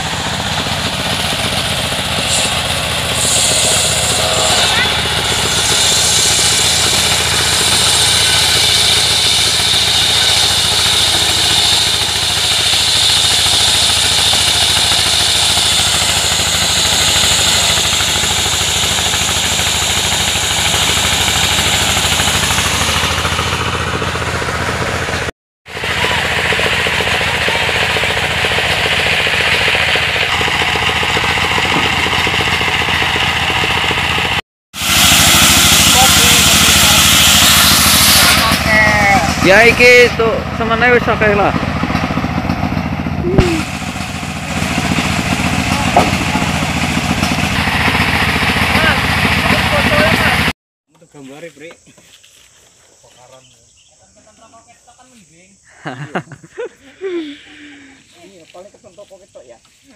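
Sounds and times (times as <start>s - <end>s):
low engine drone: 0.0s - 50.5s
saw blade whining: 0.0s - 50.5s.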